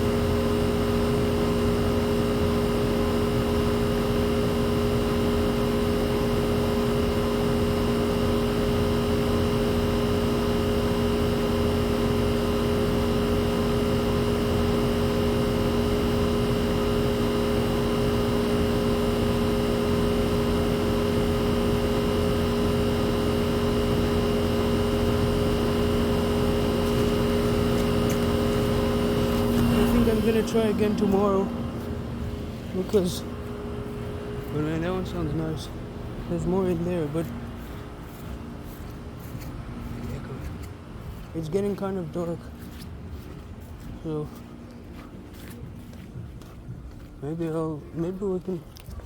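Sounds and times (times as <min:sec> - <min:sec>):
air conditioner compressor humming: 0:00.0 - 0:49.0.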